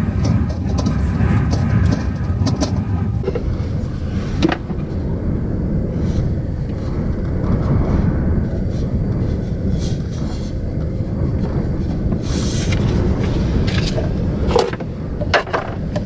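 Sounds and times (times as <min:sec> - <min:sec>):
strong wind buffeting van: 0:00.0 - 0:16.0.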